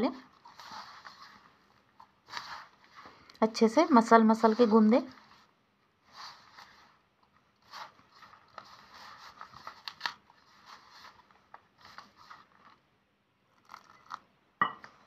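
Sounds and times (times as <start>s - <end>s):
hands kneading crumbly dough: 0.0s - 12.9s.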